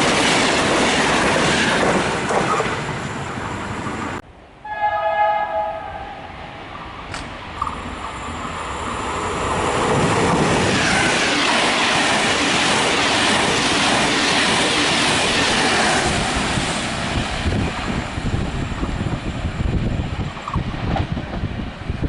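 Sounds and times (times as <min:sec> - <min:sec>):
train wheels rumbling on rails: 0:00.0 - 0:04.2, 0:06.8 - 0:22.0.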